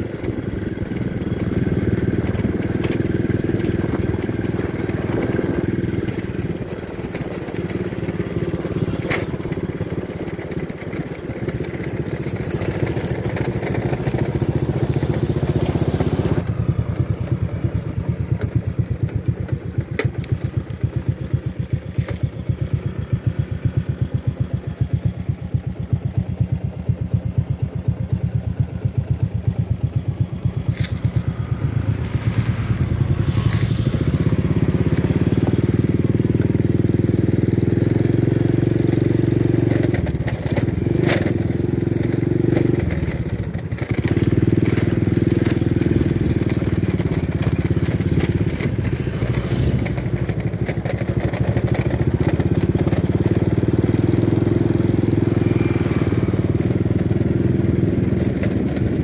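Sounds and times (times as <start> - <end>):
motorcycle engine idling and riding: 0.0 - 59.0.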